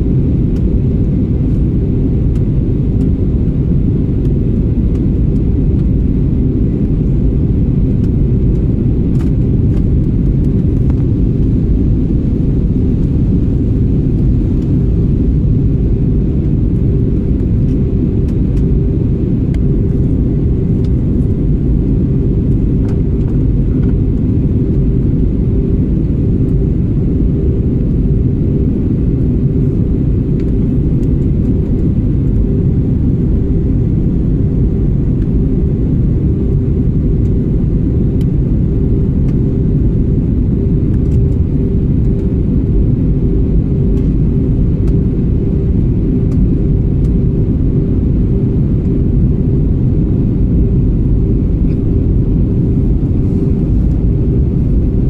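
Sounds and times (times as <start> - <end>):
faint steady hum: 0.0 - 55.0
jet engines rumbling in cabin: 0.0 - 55.0.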